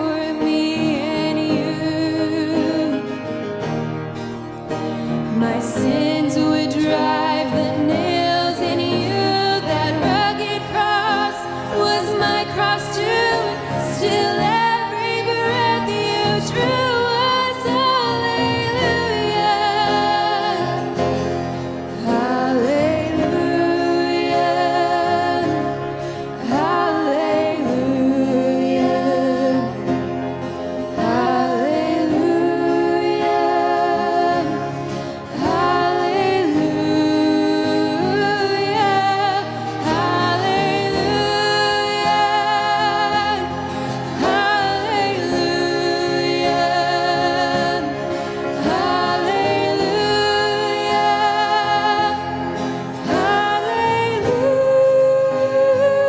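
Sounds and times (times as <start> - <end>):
women singing into microphones: 0.0 - 3.4, 5.0 - 56.0
acoustic guitars: 0.0 - 56.0.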